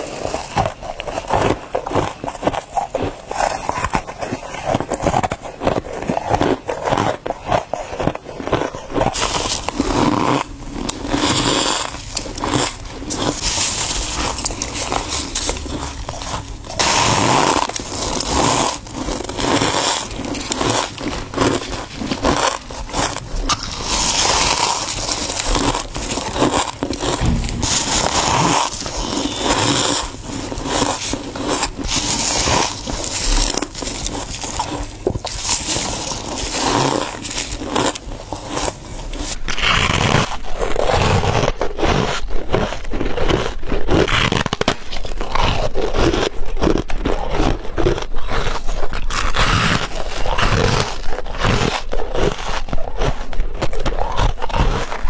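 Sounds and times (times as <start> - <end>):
crunching bites of frost: 0.0 - 55.0.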